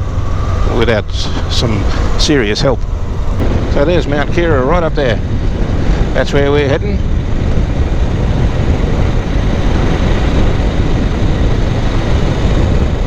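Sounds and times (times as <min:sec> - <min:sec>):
motorcycle engine running: 0:00.0 - 0:13.0
wind rushing on microphone: 0:00.0 - 0:13.0.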